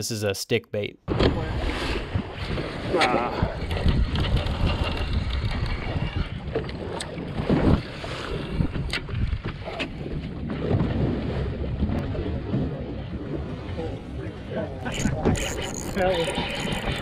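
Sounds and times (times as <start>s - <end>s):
water sloshing against hull: 1.1s - 17.0s
wind buffeting microphone: 1.3s - 17.0s.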